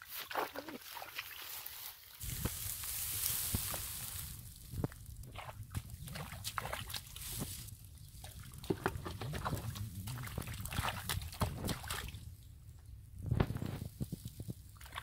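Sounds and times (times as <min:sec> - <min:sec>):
mud squelching and splashing: 0:00.0 - 0:12.5, 0:14.3 - 0:15.0.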